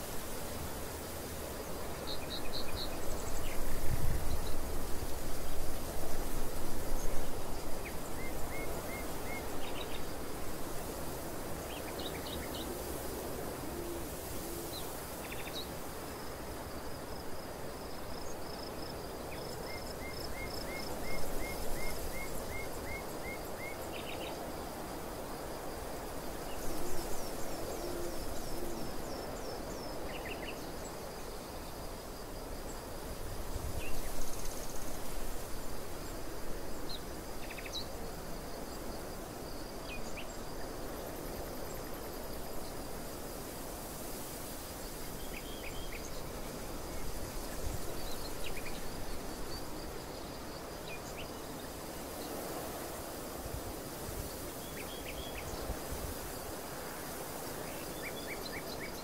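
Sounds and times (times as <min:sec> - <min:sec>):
wind over open field: 0:00.0 - 0:59.0.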